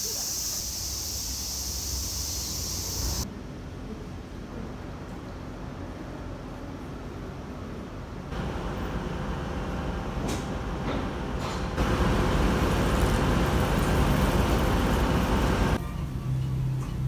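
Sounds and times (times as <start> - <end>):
street traffic hiss and rumble: 0.0 - 17.0.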